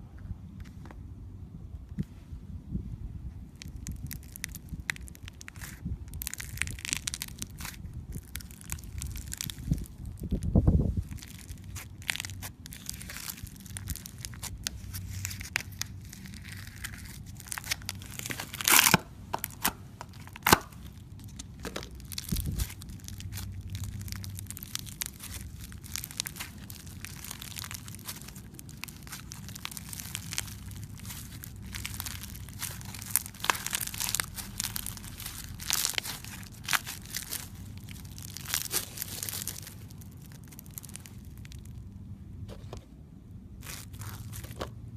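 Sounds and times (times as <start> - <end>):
crunchy slime being squeezed: 3.5 - 42.5, 43.4 - 44.8.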